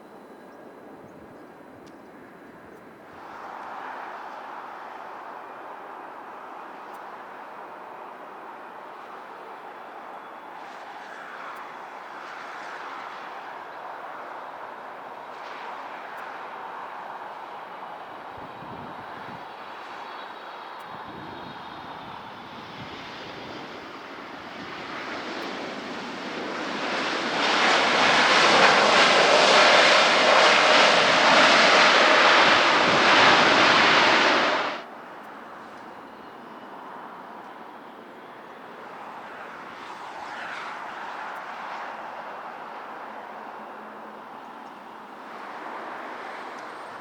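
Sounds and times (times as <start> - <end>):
jet airliner engine roar: 0.0 - 47.0.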